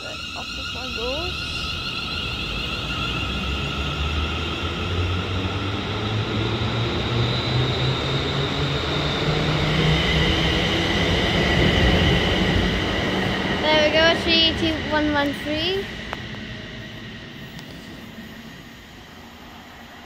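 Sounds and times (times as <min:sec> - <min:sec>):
electric train hum and whine: 0:00.0 - 0:20.0.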